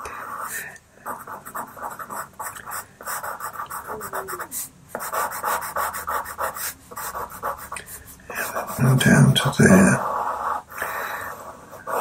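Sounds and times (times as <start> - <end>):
pastel pencil scratching paper: 0.2 - 12.0.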